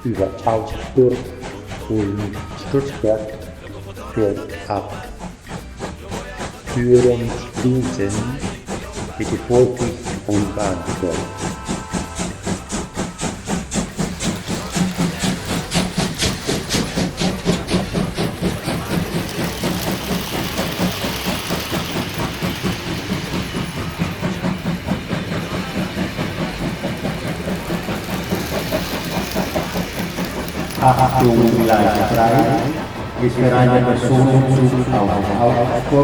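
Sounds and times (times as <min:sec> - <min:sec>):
steady steam hiss: 0:00.0 - 0:36.0
steam locomotive chuffing: 0:00.0 - 0:36.0
train whistle: 0:00.0 - 0:36.0.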